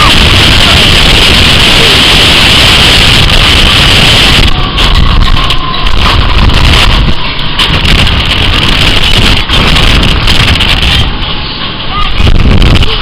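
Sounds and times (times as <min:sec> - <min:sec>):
blizzard wind blowing hard: 0:00.0 - 0:13.0.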